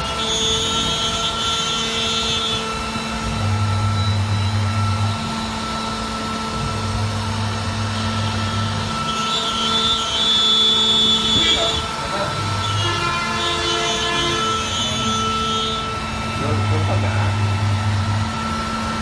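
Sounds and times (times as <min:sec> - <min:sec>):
router spindle cutting plywood: 0:00.0 - 0:19.0.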